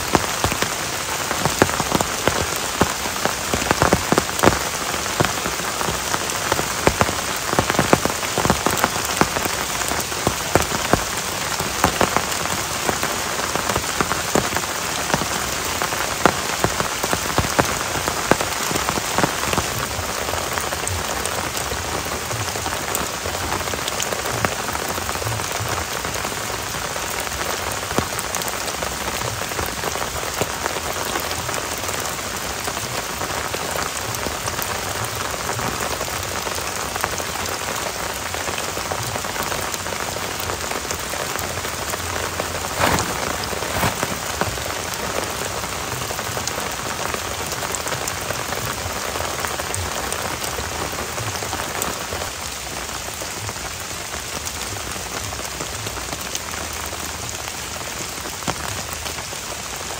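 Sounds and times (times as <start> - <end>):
heavy rain falling: 0.0 - 59.9
large raindrops ticking: 0.0 - 59.9.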